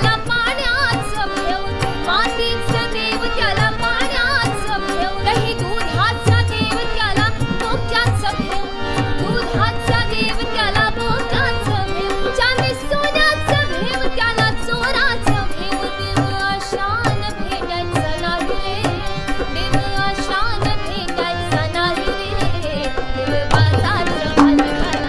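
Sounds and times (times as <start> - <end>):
dholak drum beat: 0.0 - 25.0
harmonium drones and chords: 0.0 - 25.0
woman singing: 0.0 - 25.0.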